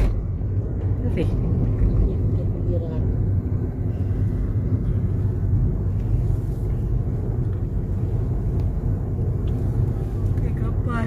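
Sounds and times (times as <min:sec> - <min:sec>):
car driving heard from inside: 0:00.0 - 0:11.0.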